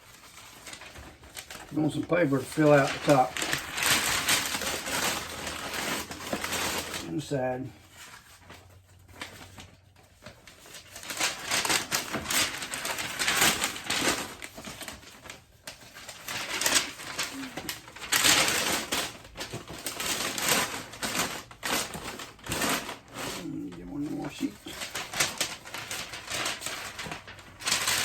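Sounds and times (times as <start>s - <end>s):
packing paper crumpling: 0.0s - 28.0s.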